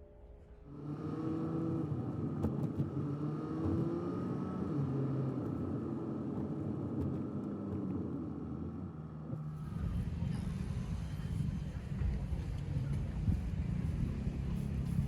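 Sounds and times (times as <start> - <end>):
vehicle engines running: 0.7 - 15.0.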